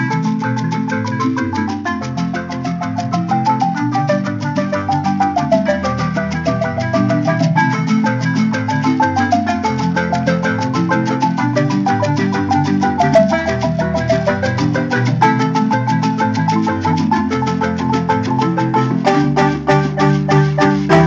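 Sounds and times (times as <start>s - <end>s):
bass marimba notes: 0.0s - 21.0s
marimba ensemble playing: 0.0s - 21.0s.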